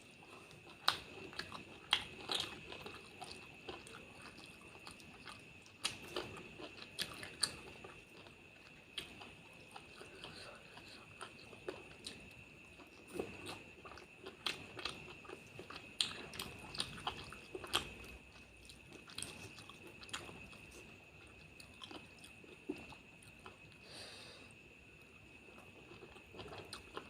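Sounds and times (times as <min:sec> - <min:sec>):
person chewing food: 0:00.1 - 0:23.9, 0:25.0 - 0:27.0.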